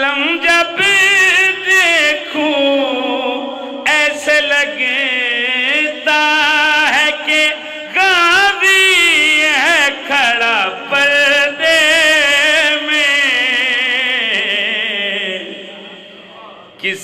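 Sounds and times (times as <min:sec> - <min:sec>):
man singing unaccompanied: 0:00.0 - 0:15.8, 0:16.8 - 0:17.0.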